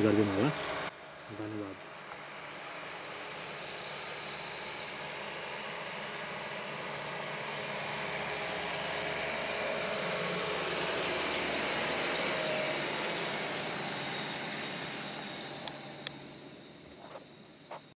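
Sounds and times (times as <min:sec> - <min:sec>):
jeep driving past: 0:02.1 - 0:17.2.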